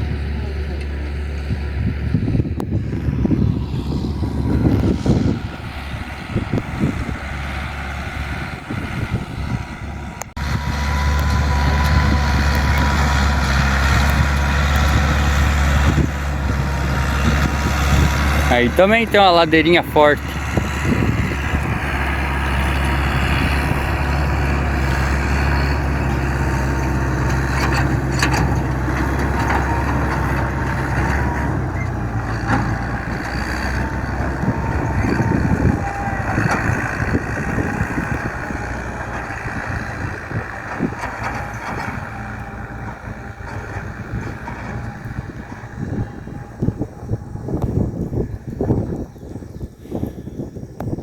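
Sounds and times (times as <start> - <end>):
heavy diesel engine droning: 0.0 - 51.0.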